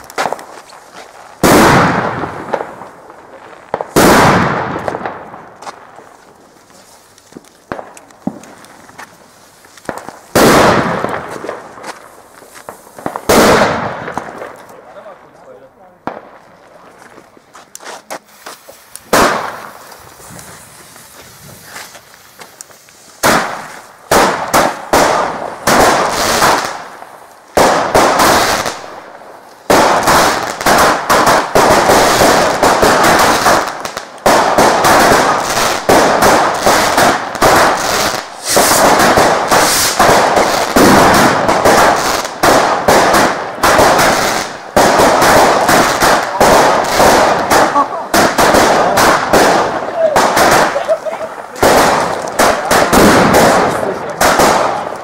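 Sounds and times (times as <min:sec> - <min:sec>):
firecrackers banging: 0:00.0 - 0:55.0.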